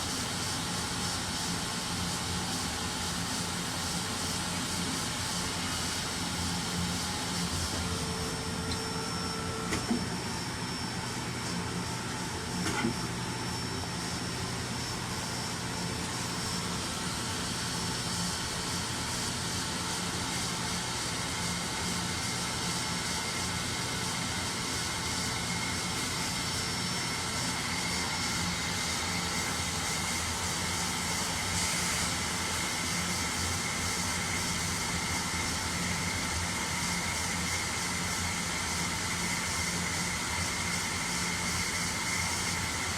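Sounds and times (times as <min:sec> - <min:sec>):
lathe machine hiss and hum: 0:00.0 - 0:42.9.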